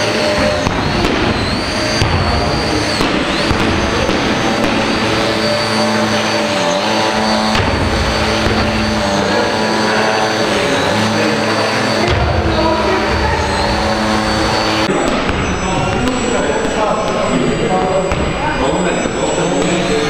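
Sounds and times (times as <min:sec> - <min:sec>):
model airplane motor and propeller: 0:00.0 - 0:20.0.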